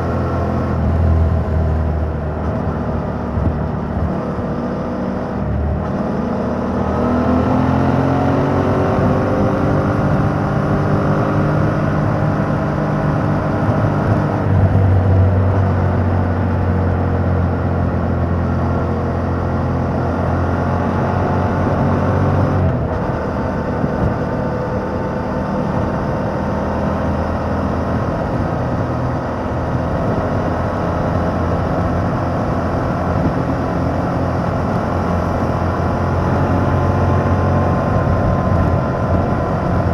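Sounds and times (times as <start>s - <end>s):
motorcycle engine revving: 2.0s - 17.4s, 18.3s - 39.9s.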